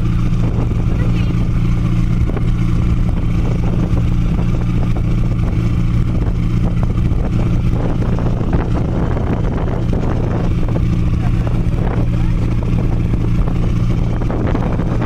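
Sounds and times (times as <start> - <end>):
ferry engine droning: 0.0 - 15.0
wind noise: 0.0 - 15.0.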